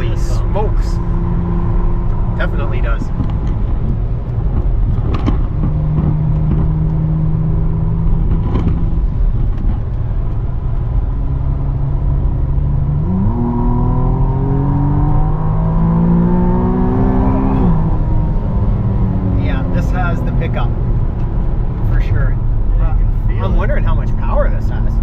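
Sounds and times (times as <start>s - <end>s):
sports car engine accelerating: 0.0s - 25.0s.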